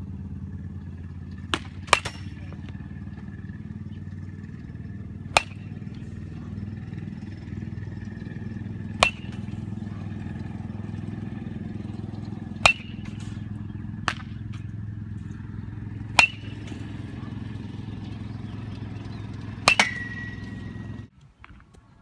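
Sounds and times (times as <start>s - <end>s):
steady low hum: 0.0s - 21.1s
baseball bat cracking ball: 0.9s - 21.6s.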